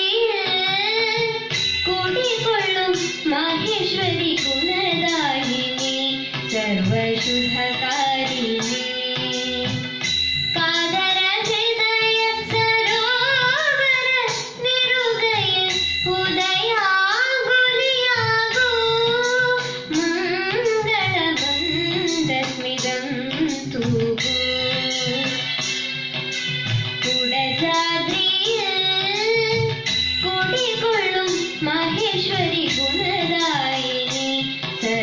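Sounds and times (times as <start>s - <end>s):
girl singing into a microphone: 0.0s - 25.6s, 27.0s - 35.0s
instrumental accompaniment with beat: 0.0s - 35.0s.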